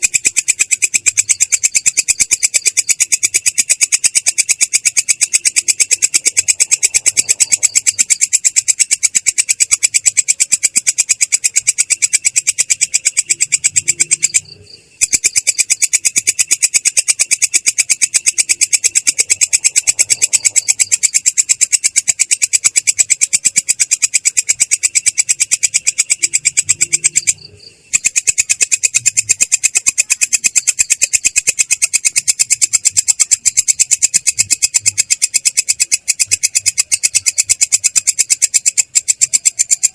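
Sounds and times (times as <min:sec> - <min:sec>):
insect rolling trill: 0:00.0 - 0:39.9.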